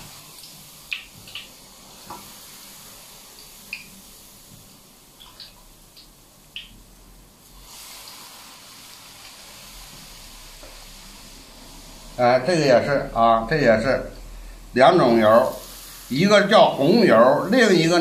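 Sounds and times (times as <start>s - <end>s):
hot oil sizzling: 0.0s - 18.0s.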